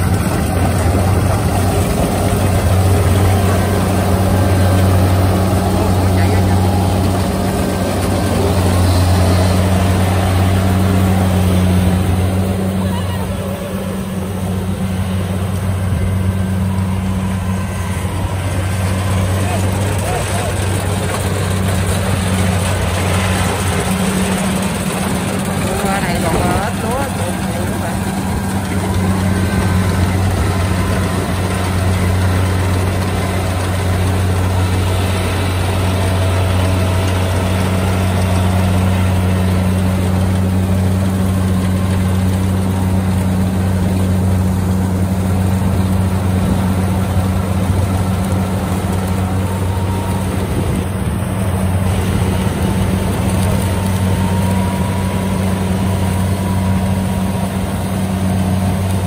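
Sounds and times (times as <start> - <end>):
combine harvester diesel drone: 0.0 - 59.0.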